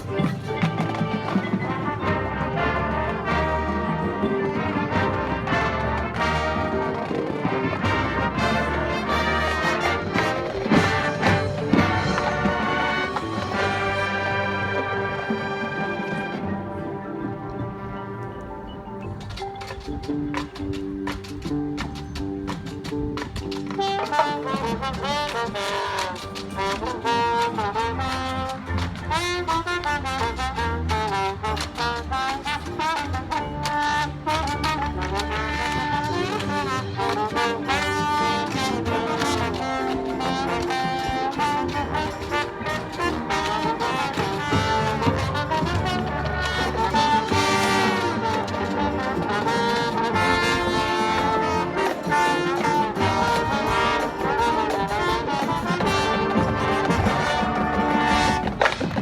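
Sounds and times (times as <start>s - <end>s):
steady percussion: 0.0s - 16.8s, 19.0s - 59.0s
marching band brass: 0.0s - 59.0s.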